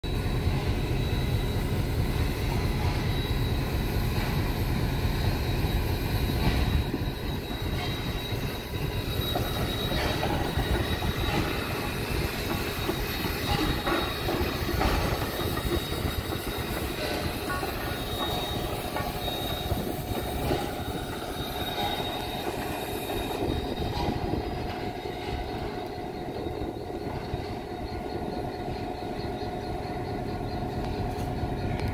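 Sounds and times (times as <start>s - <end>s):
diesel locomotive engine running: 0.0s - 31.9s
steam locomotive passing: 0.0s - 31.9s
thin steady high tone: 0.1s - 31.9s.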